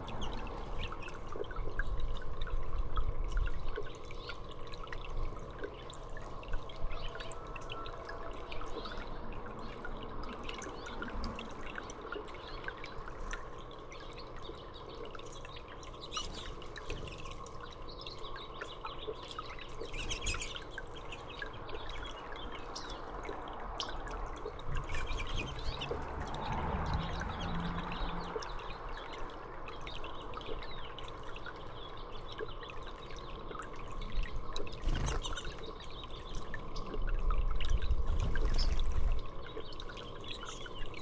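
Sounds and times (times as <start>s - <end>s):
small birds chirping: 0.0s - 2.2s, 6.8s - 41.0s
water dripping and trickling: 0.0s - 41.0s.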